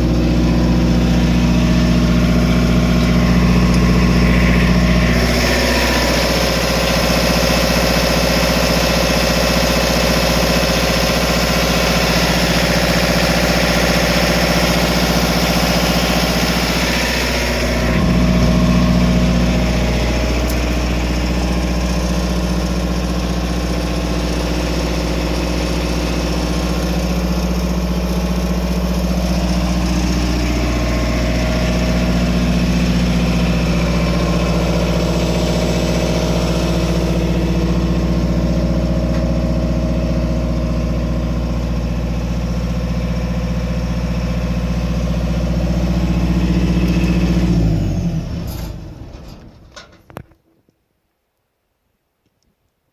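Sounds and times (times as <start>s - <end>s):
diesel generator humming: 0.0s - 50.0s.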